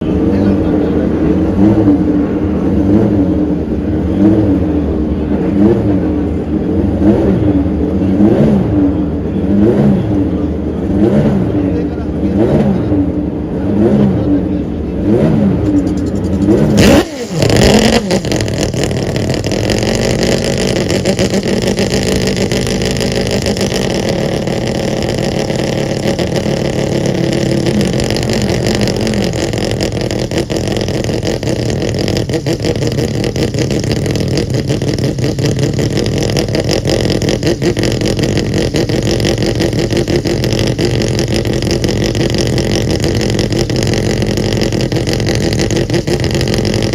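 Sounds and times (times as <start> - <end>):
rotary engine revving: 0.0 - 46.9.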